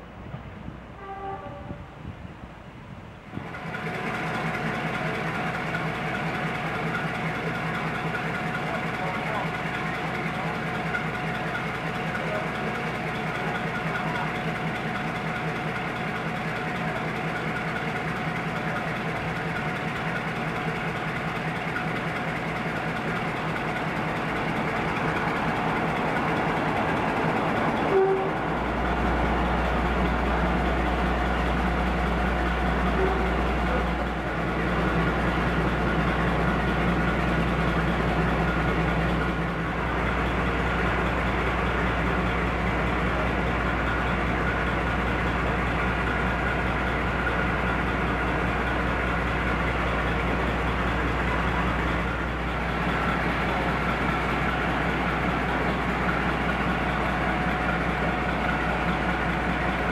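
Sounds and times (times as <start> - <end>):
diesel engines idling: 2.0 - 59.9.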